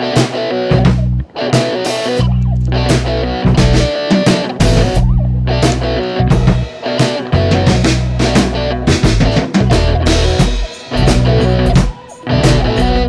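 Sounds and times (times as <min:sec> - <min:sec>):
rock music with guitar and drums: 0:00.0 - 0:13.0.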